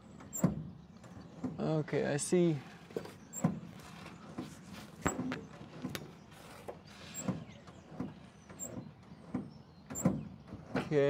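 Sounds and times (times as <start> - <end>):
hands clicking and knocking on engine parts: 0.0 - 1.9, 2.6 - 11.0.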